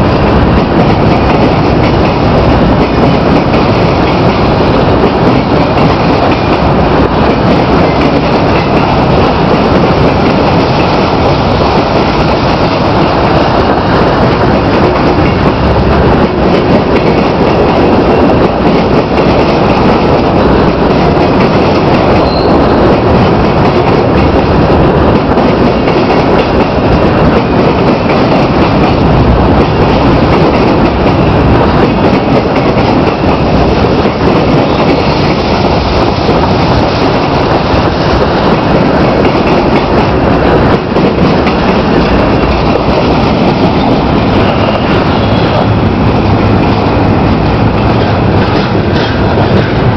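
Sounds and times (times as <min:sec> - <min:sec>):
freight train wheels rumbling on rails: 0:00.0 - 0:49.9.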